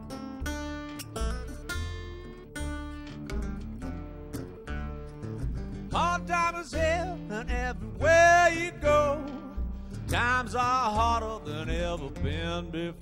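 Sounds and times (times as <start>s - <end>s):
fingerpicked resonator guitar: 0.0s - 13.0s.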